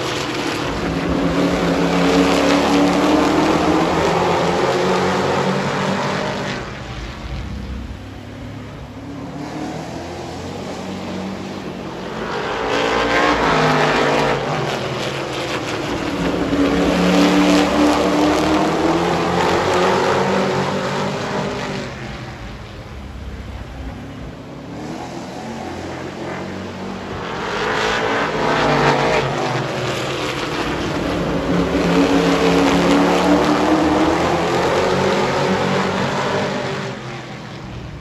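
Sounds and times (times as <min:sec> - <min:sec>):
race truck engines passing: 0:00.0 - 0:38.0.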